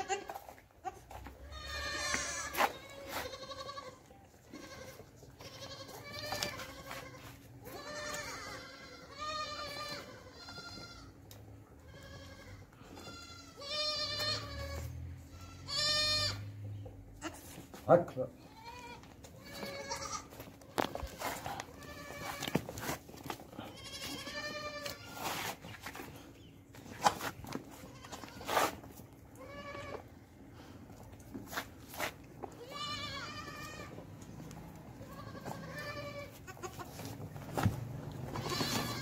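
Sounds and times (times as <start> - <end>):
goats bleating: 0.0 - 16.5, 17.2 - 17.6, 18.4 - 25.6, 27.7 - 30.1, 32.5 - 37.2, 38.1 - 39.0.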